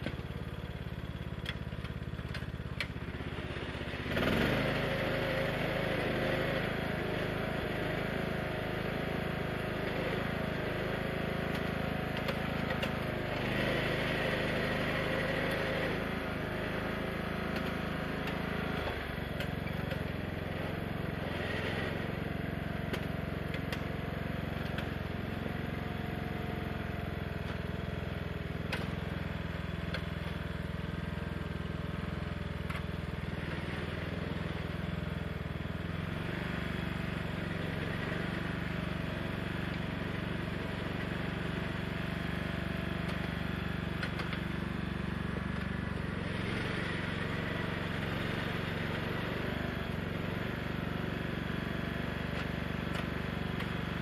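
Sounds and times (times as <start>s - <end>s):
lawn tractor engine running: 0.0s - 54.0s.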